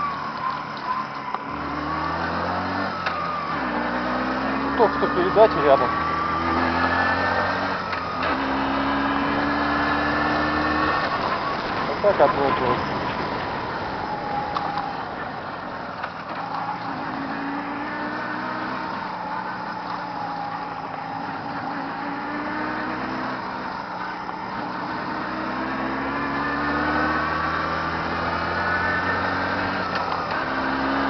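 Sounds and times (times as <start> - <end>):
vehicle engine driving: 0.0 - 31.0.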